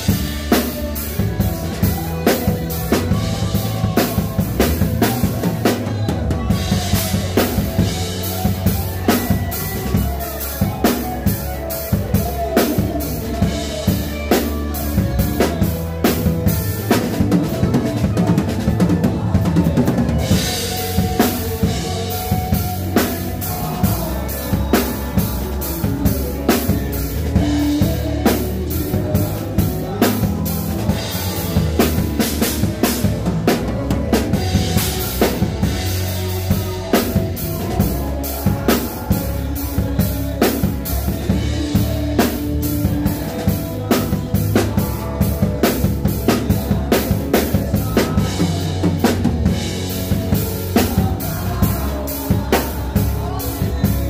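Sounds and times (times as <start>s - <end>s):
bass and electric guitar: 0.0s - 54.0s
drum kit playing a steady beat: 0.0s - 54.0s.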